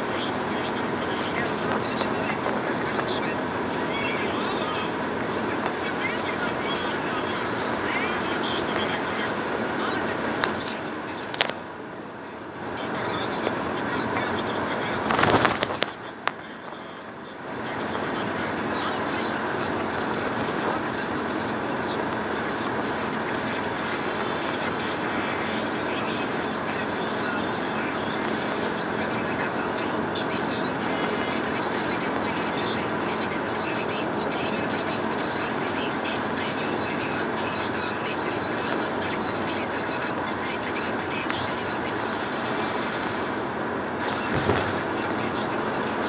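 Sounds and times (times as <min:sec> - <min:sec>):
van engine and tyre noise: 0:00.0 - 0:46.0.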